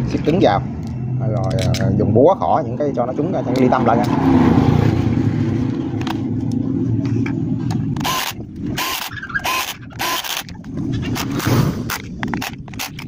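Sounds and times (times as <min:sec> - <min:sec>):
mechanical whir: 0:00.7 - 0:13.0.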